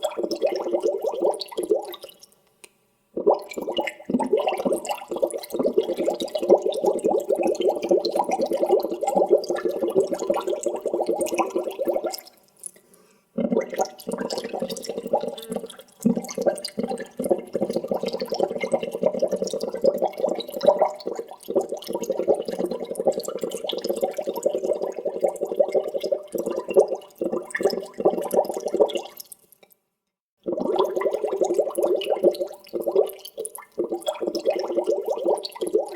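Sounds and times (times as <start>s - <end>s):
air bubbling through water: 0.0s - 2.1s, 3.2s - 12.3s, 13.4s - 29.2s, 30.4s - 35.9s.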